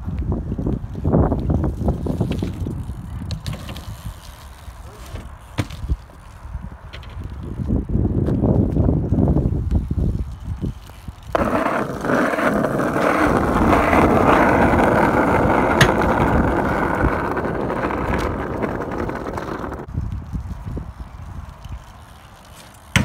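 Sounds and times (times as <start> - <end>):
bike tyres rolling on asphalt: 0.0 - 23.0.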